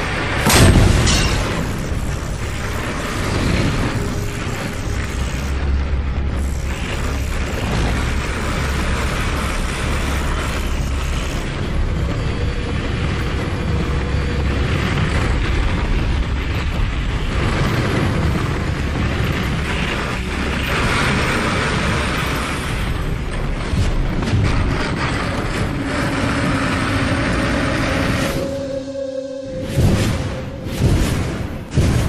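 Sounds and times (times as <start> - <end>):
sled rushing down snowy track: 0.0 - 32.0.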